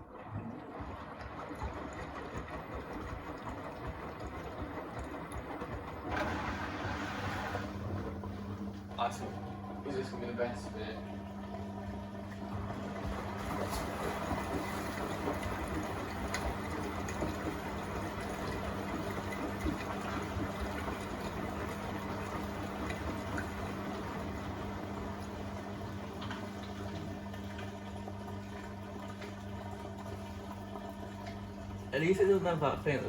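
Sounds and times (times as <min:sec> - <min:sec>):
washing machine low hum: 0:00.0 - 0:33.0
water sloshing in washing machine: 0:00.0 - 0:33.0.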